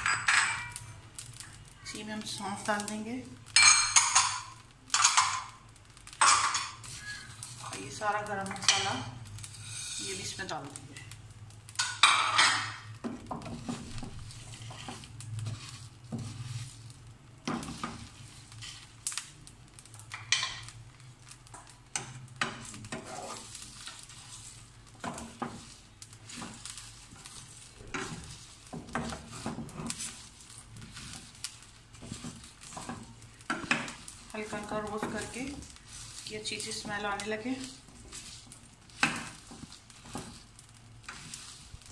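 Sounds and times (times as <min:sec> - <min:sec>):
light sizzle: 0:00.0 - 0:41.9
spices rattling in frying pan: 0:00.0 - 0:41.9.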